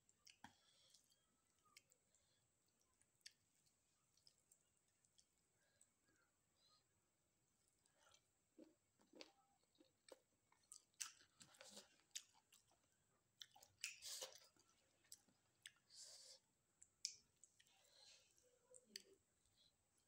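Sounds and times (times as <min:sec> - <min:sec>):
chewing rice: 0:00.0 - 0:06.1, 0:07.5 - 0:19.2.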